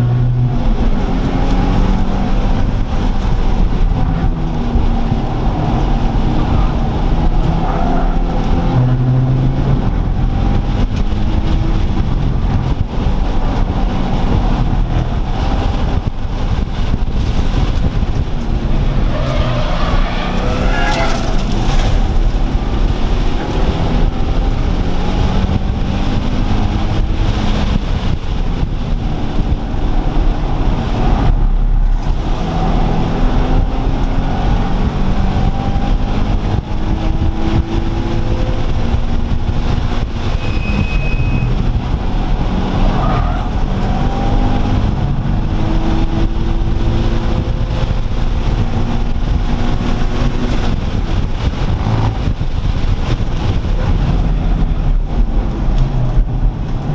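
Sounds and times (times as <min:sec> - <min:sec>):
car engines accelerating hard: 0:00.0 - 0:56.9
heavy low rumble: 0:00.0 - 0:56.9.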